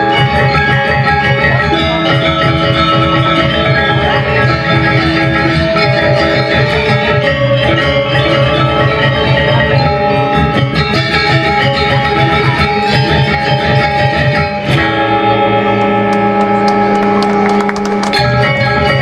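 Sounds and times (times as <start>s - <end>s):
gamelan ringing metallophones: 0.0s - 19.0s.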